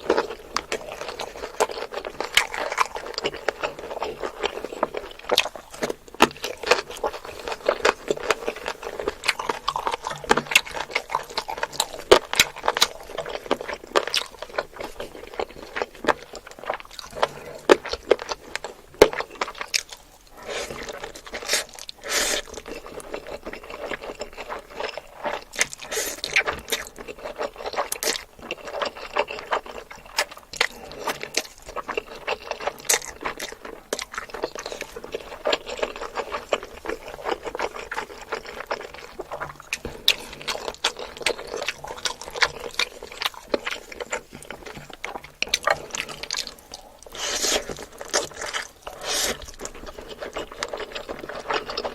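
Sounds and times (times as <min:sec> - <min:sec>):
chewing with crunches: 0:00.0 - 0:51.9.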